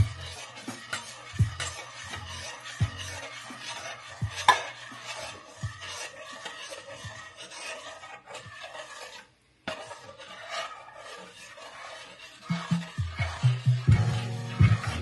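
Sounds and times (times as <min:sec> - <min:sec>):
utensil scraping in saucepan: 0:00.0 - 0:15.0.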